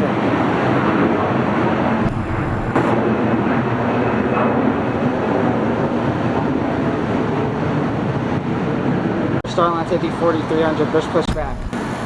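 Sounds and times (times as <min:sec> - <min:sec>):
distant jet engine: 0:00.0 - 0:12.0
road traffic rumble: 0:00.0 - 0:12.0.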